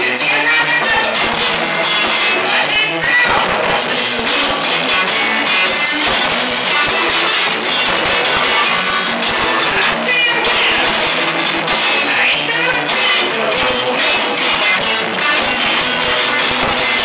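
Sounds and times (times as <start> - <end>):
drum kit: 0.0 - 17.0
electric guitar: 0.0 - 17.0.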